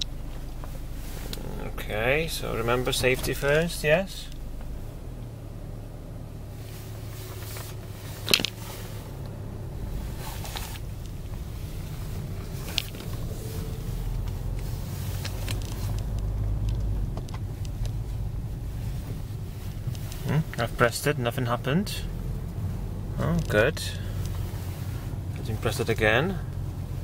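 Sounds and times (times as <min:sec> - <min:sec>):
car engine low rumble: 0:00.0 - 0:27.0.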